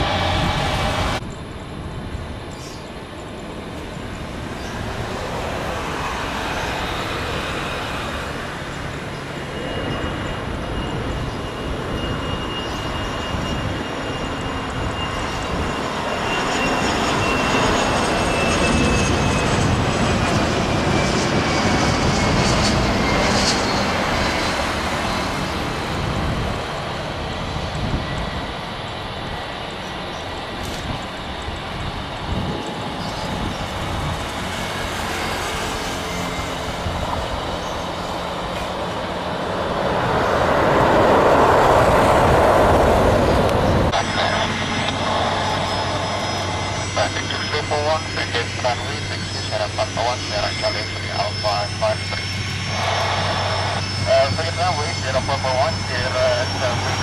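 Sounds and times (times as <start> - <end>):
high engine whine: 0.0 - 57.0
jet engine rush: 0.0 - 57.0.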